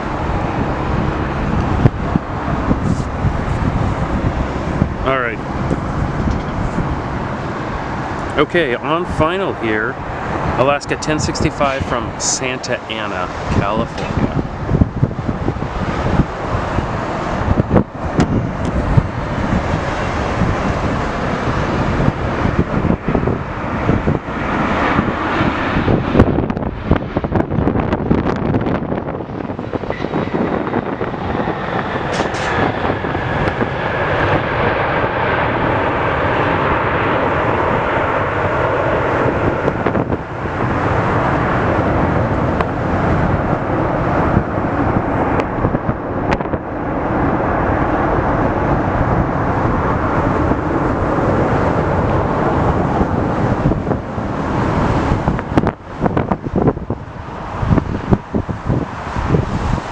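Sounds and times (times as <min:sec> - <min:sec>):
jet engines whining: 0:00.0 - 0:59.9
wind buffeting microphone: 0:00.0 - 0:59.9.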